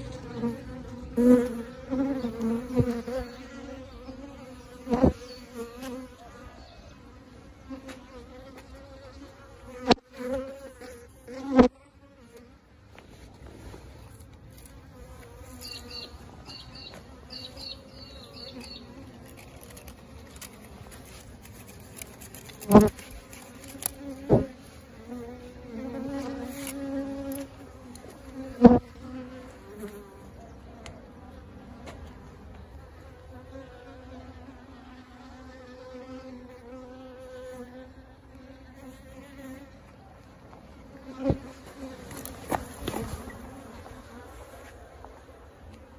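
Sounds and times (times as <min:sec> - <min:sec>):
bees buzzing: 0:00.0 - 0:12.7, 0:14.2 - 0:39.9, 0:40.7 - 0:45.9.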